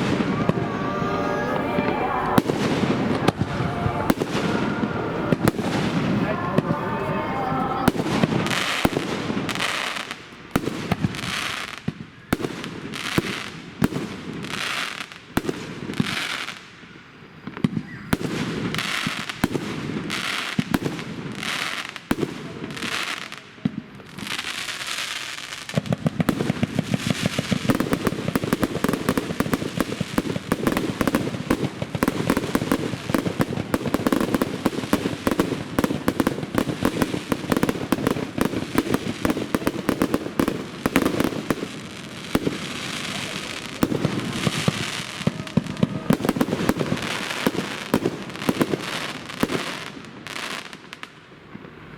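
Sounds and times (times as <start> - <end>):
rapid firework bangs: 0.0 - 16.7, 17.5 - 50.8
firework shells bursting with crackle: 0.0 - 51.7.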